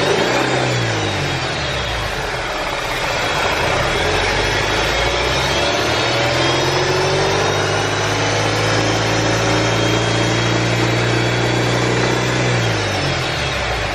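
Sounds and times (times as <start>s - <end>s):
car engine running: 0.0s - 13.9s.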